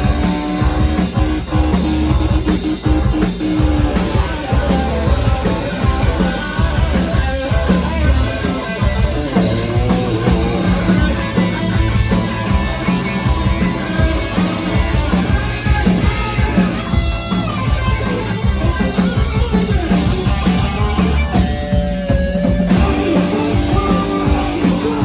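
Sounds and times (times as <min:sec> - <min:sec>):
bass guitar: 0:00.0 - 0:25.0
drums: 0:00.0 - 0:25.0
electric guitars: 0:00.0 - 0:25.0.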